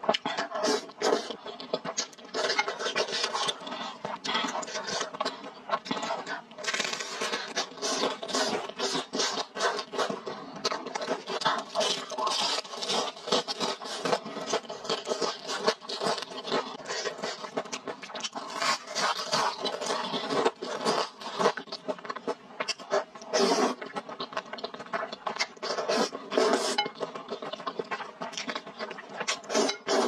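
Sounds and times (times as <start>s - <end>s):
wet chewing and smacking: 0.0s - 30.0s.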